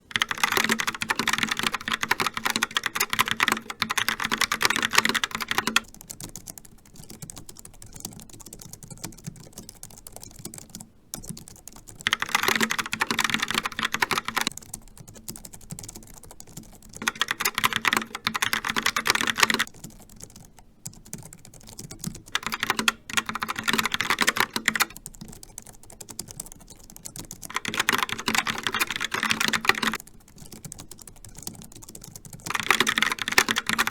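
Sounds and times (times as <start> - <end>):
loud keyboard clacking: 0.0 - 33.9.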